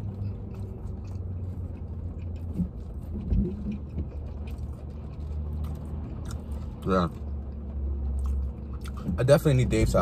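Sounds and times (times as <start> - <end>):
man chewing food: 0.0 - 9.2
car interior hum: 0.0 - 10.0.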